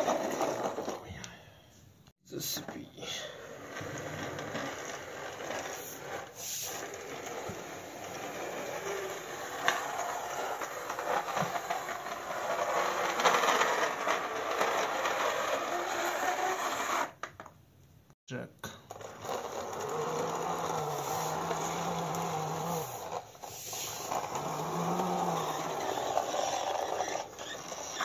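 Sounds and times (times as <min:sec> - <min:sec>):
toy excavator rolling and rattling: 0:00.0 - 0:01.1, 0:03.2 - 0:17.5, 0:18.8 - 0:28.0.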